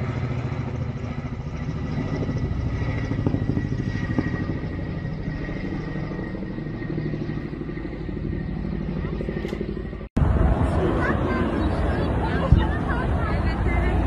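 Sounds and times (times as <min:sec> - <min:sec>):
helicopter rotor rumble: 0:00.0 - 0:14.0.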